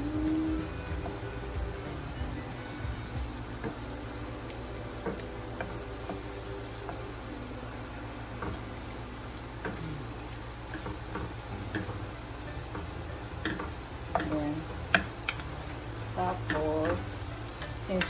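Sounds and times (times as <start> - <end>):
shrimp sizzling in a pan: 0.0 - 18.0.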